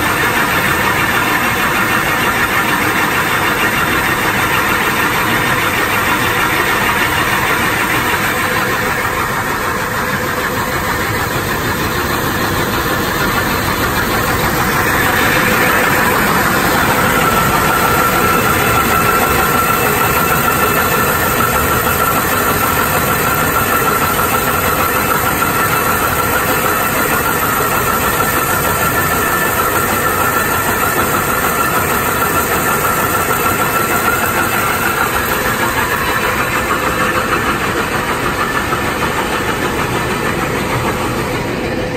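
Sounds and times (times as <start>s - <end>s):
steady mechanical whine: 0.0s - 41.9s.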